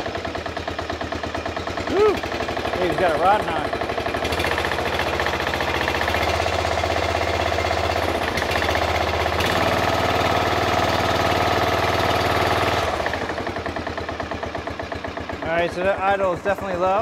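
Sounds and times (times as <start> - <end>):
engine knocking: 0.0 - 17.0
small engine running: 0.0 - 17.0.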